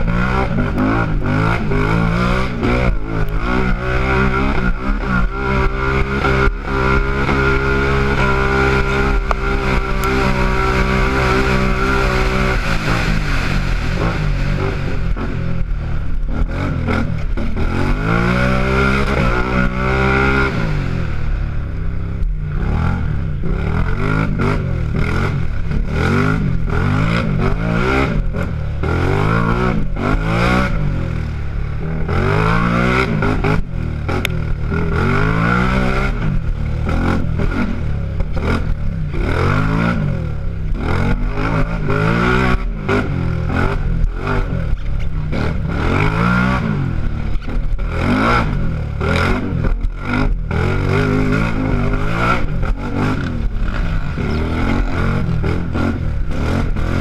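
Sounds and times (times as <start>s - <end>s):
quad engine accelerating: 0.0s - 57.0s.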